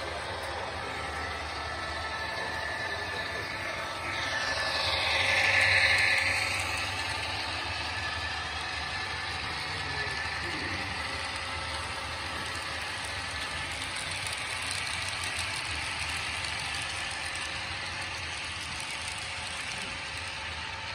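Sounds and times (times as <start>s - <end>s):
model train wheels rolling on rails: 0.0s - 20.9s.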